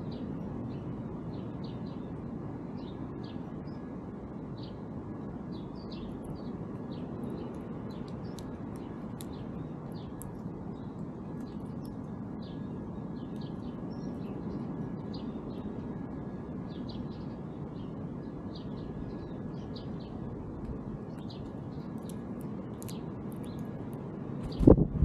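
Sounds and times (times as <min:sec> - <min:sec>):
low background rumble: 0:00.0 - 0:25.0
songbirds chirping: 0:00.0 - 0:25.0.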